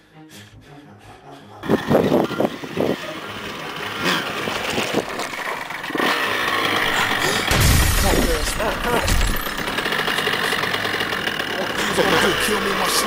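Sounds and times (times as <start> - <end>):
motocross bike engine revving: 1.6 - 13.0.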